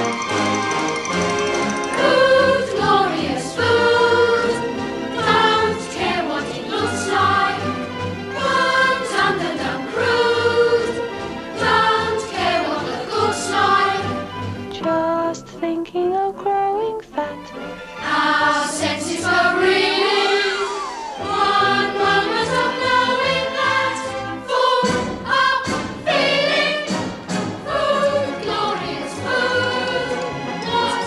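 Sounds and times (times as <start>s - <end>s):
choir singing with accompaniment: 0.0s - 14.6s, 17.7s - 31.0s.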